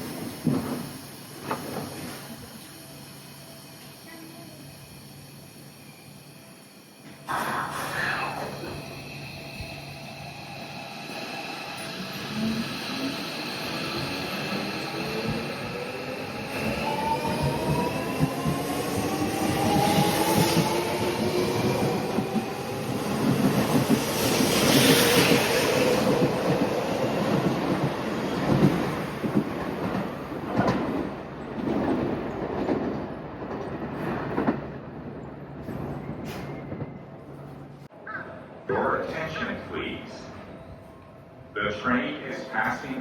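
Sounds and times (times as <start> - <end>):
train wheels on rails: 0.0 - 6.2, 6.9 - 37.9.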